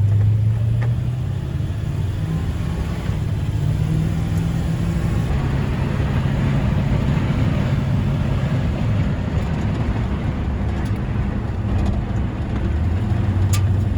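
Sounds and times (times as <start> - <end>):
pickup truck engine humming: 0.0 - 13.9
road or wind noise: 0.0 - 13.9.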